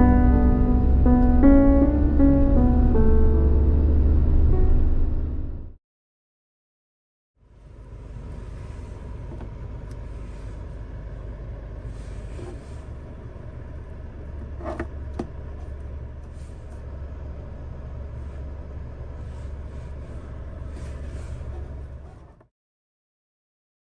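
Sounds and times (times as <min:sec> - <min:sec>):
car engine running: 0:00.0 - 0:05.7, 0:07.6 - 0:22.4.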